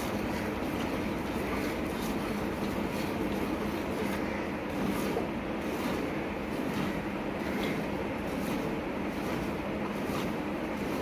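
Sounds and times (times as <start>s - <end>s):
milk squirting into a pail: 0.0s - 11.0s.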